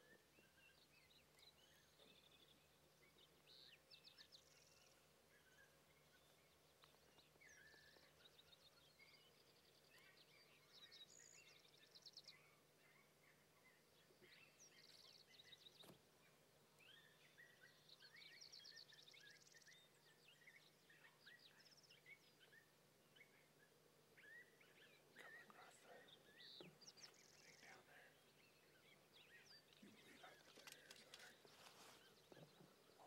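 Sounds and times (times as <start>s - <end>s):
faint songbirds singing: 0.0s - 33.0s.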